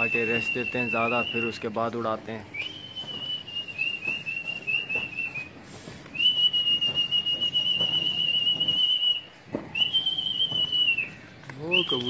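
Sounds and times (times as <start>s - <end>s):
high steady whistle: 0.0s - 1.8s, 2.5s - 12.0s.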